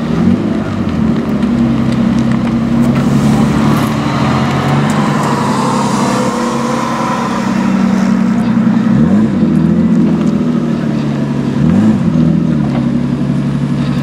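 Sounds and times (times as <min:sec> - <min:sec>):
sports car engines at low speed: 0:00.0 - 0:14.0.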